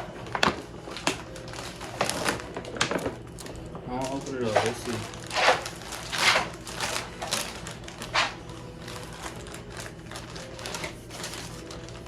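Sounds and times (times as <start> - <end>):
gift packaging rustling and crinkling: 0.0 - 12.0.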